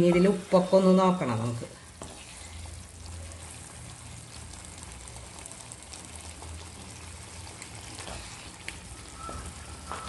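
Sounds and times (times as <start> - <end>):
pickle sizzling and bubbling: 0.0 - 10.0
wooden spatula stirring: 1.4 - 10.0.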